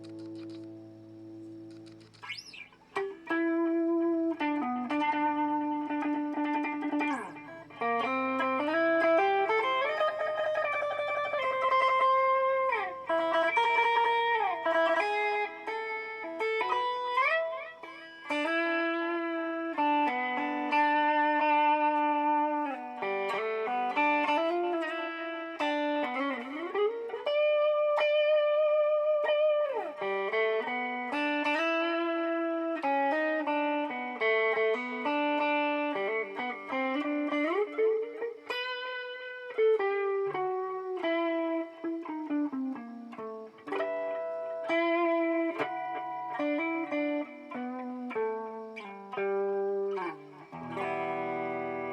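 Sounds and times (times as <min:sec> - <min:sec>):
electric guitar with delay: 0:00.0 - 0:51.9.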